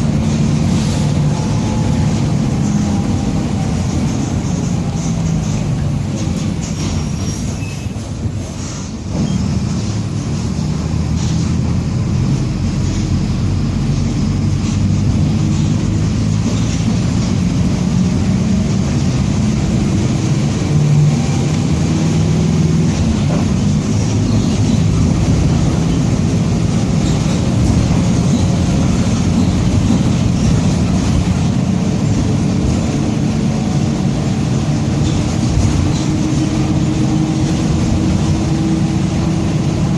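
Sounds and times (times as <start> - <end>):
growling differential drone: 0.0 - 6.7, 10.0 - 39.9
bus diesel engine running: 0.0 - 39.9
road rumble: 0.0 - 39.9.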